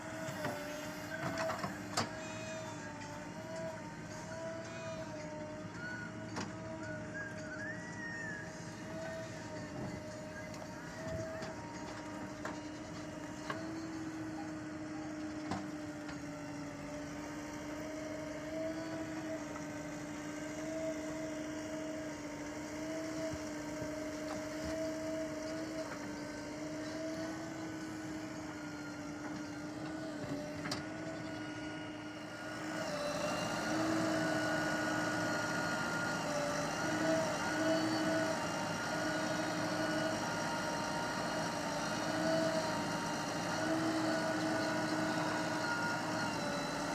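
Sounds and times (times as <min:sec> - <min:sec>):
heavy diesel machinery running: 0:00.0 - 0:46.9.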